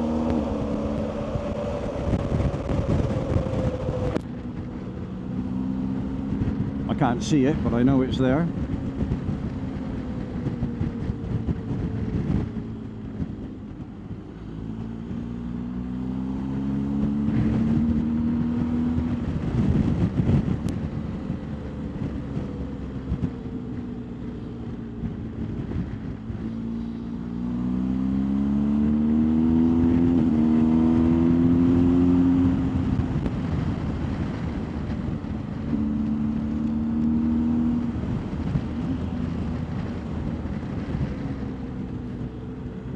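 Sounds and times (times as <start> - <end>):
motorcycle engine accelerating: 0.0 - 42.9
wind and road noise: 0.0 - 42.9.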